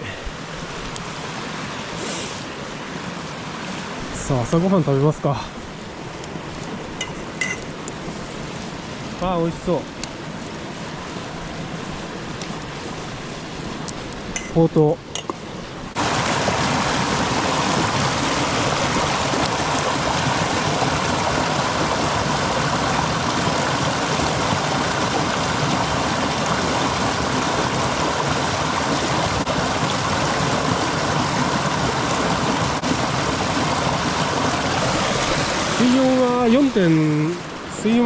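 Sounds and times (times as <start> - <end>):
stream flowing over rocks: 0.0 - 38.0.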